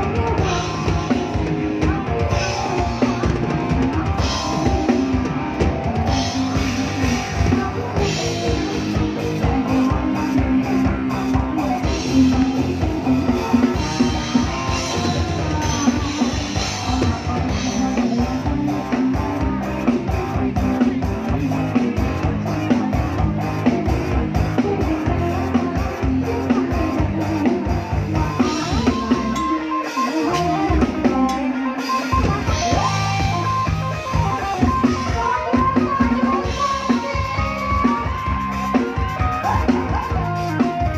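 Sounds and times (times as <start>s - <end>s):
bass guitar: 0.0s - 40.9s
drum kit: 0.0s - 40.9s
guitar: 0.0s - 40.9s.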